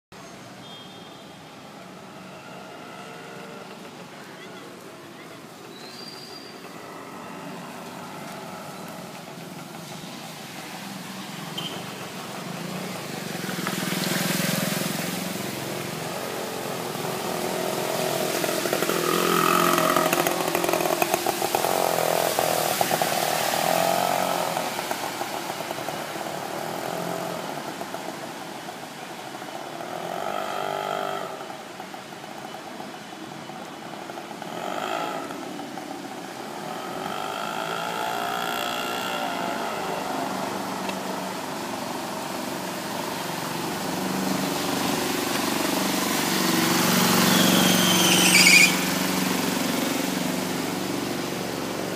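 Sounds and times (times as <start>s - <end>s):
tyres swishing through water: 0.2s - 51.9s
engine passing: 1.8s - 51.9s
small engine passing: 1.8s - 51.9s.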